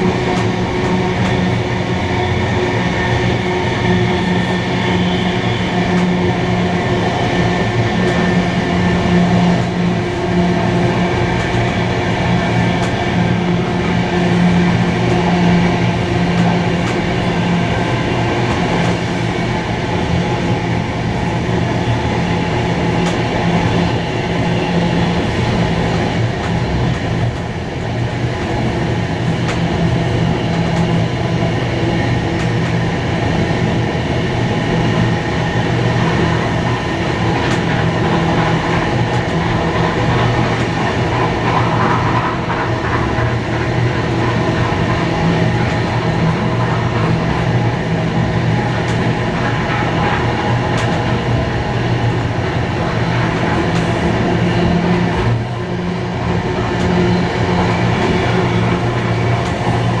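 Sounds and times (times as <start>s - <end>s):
constant low hum: 0.0s - 60.0s
train rumbling on rails: 0.0s - 60.0s.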